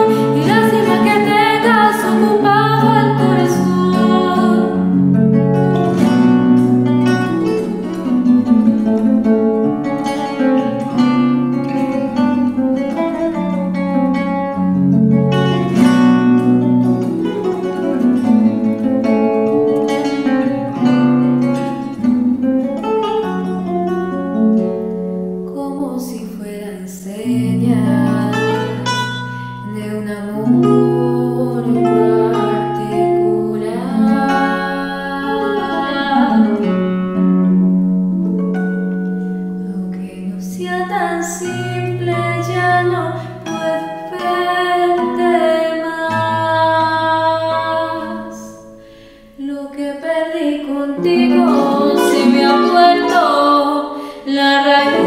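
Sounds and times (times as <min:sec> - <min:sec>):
classical guitar playing: 0:00.0 - 0:55.0.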